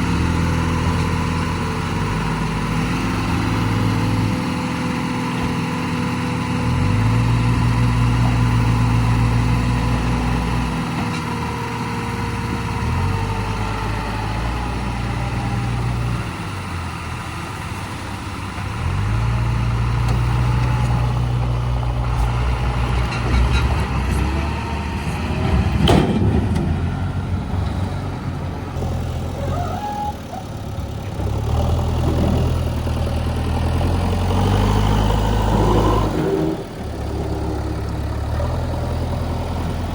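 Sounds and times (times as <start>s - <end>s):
diesel engines of digging machines: 0.0s - 39.9s.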